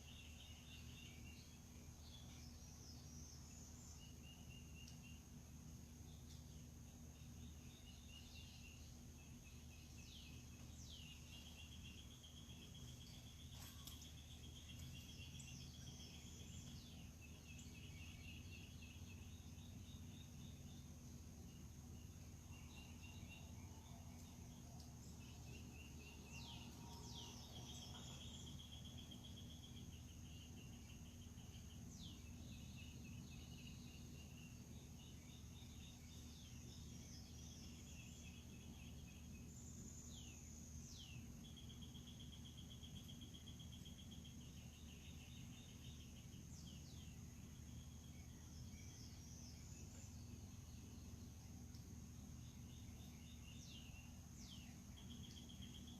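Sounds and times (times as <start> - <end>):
constant low hum: 0.0 - 55.9.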